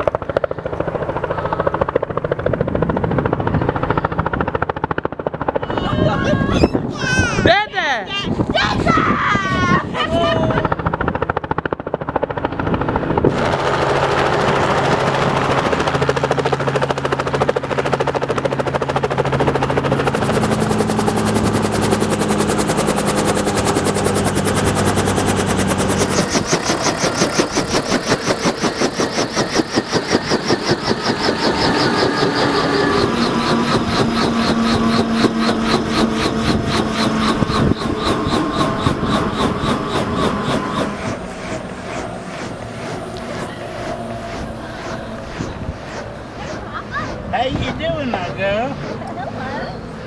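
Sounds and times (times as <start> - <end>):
helicopter rotor blades thudding: 0.0 - 9.1, 9.8 - 50.0
helicopter piston engine drone: 0.0 - 50.0.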